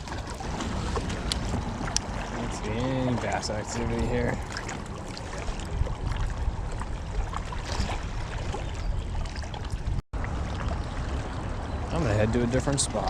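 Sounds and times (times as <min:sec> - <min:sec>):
wind on microphone: 0:00.0 - 0:11.9
rushing water: 0:00.0 - 0:13.0.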